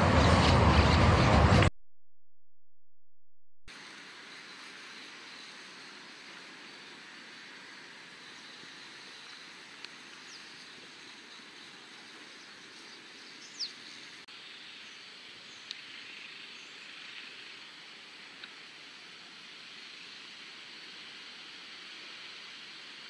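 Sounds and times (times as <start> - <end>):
outdoor background hiss: 3.7 - 23.0.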